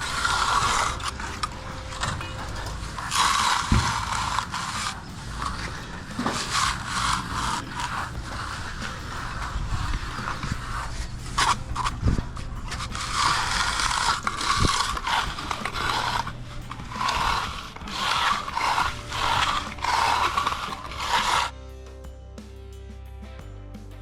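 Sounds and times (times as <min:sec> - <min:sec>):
hand tool scraping concrete: 0:00.0 - 0:21.6
low hum: 0:00.0 - 0:24.0.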